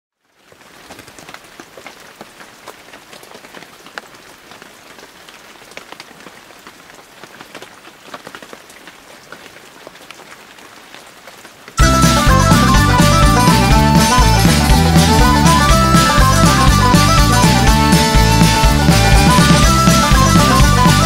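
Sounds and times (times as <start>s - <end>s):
rain falling: 0.2s - 21.0s.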